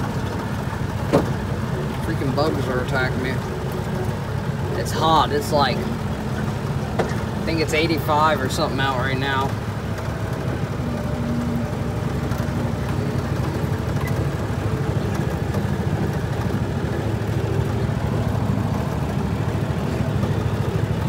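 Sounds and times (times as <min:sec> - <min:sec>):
tractor engine running: 0:00.0 - 0:21.0
utility vehicle engine running: 0:00.0 - 0:21.0.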